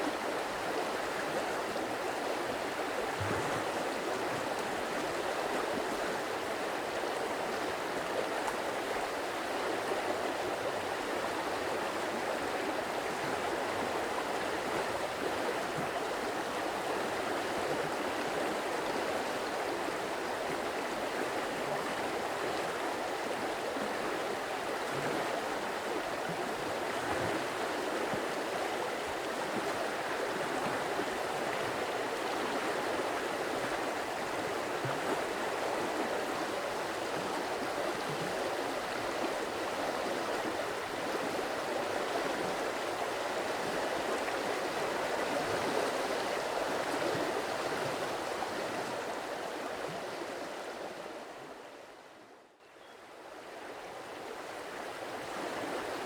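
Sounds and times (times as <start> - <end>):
stream water rushing: 0.0 - 51.6.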